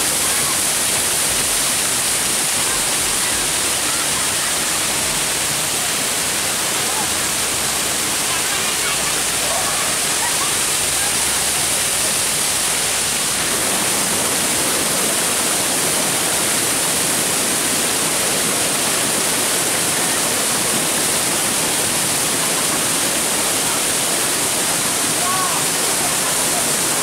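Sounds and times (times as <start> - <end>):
water rushing over boulders: 0.0 - 27.0.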